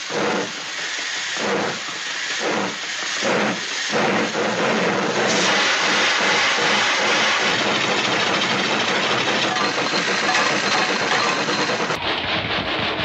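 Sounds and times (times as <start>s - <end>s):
steam hissing: 0.0s - 13.0s
steam locomotive chuffing: 0.0s - 13.0s.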